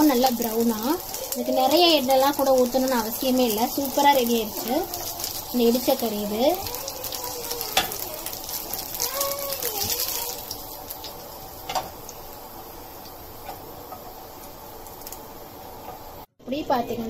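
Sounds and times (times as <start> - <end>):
meat sizzling in oil: 0.0 - 16.3.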